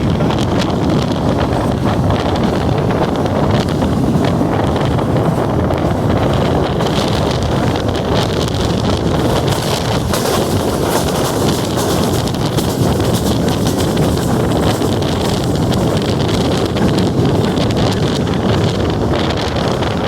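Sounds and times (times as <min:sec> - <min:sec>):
train rumble on board: 0:00.0 - 0:20.0
wind buffeting microphone: 0:00.0 - 0:20.0.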